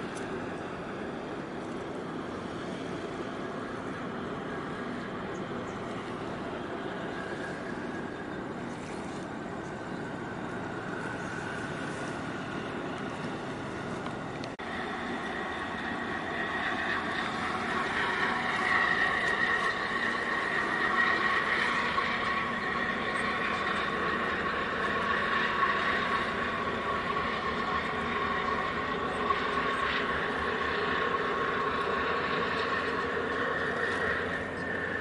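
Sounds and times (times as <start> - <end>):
high steady whine: 0.0 - 35.0
steady engine drone: 0.0 - 35.0.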